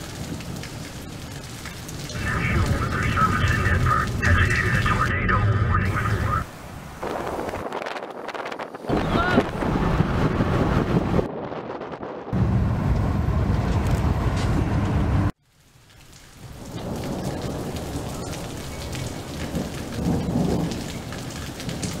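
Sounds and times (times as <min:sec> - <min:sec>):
steady rain: 0:00.0 - 0:11.8, 0:14.9 - 0:22.0
rumbling thunder: 0:00.0 - 0:14.7, 0:16.4 - 0:22.0.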